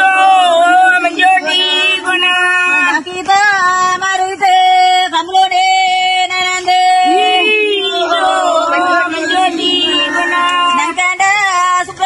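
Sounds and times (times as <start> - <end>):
person singing folk song: 0.0 - 12.0.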